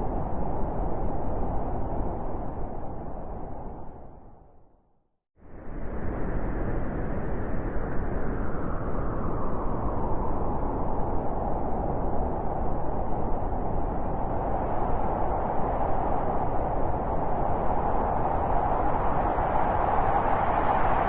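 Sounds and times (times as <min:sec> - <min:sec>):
blizzard wind howling: 0:00.0 - 0:04.8, 0:05.4 - 0:21.0.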